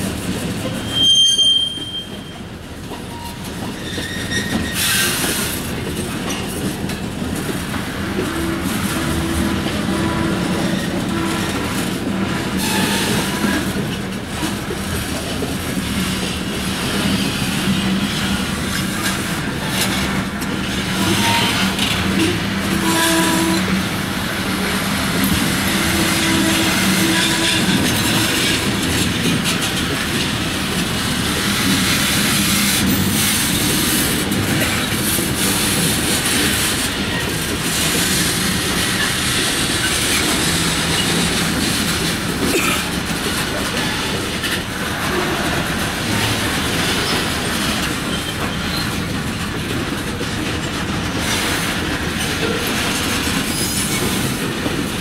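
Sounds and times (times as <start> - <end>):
wheels clattering over rail joints: 0.1 - 55.0
wheels squealing against rails: 0.4 - 6.9, 8.2 - 14.6, 16.0 - 24.0, 24.8 - 49.4, 50.2 - 54.9.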